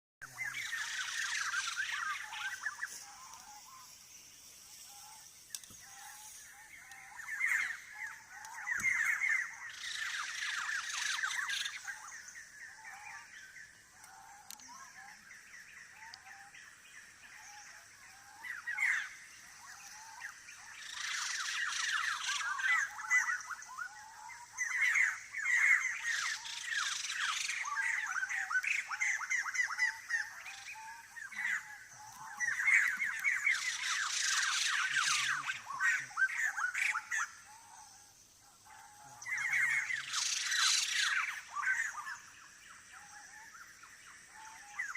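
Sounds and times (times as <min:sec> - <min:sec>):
birds chirping rapidly: 0:00.2 - 0:44.9
soft whistled bird notes: 0:00.2 - 0:44.9.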